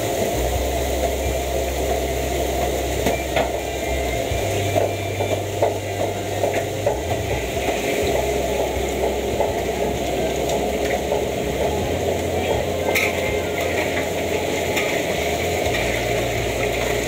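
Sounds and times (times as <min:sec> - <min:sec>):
gas burner rushing: 0:00.0 - 0:17.0.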